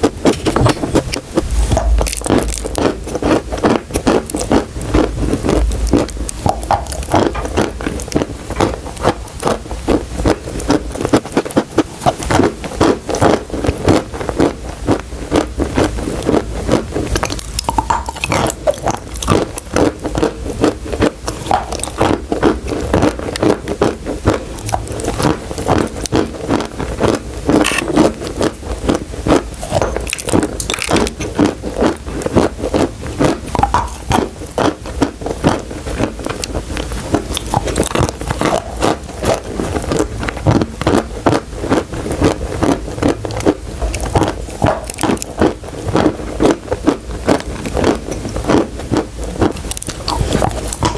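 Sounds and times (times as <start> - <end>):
crunchy chewing: 0.0 - 50.9.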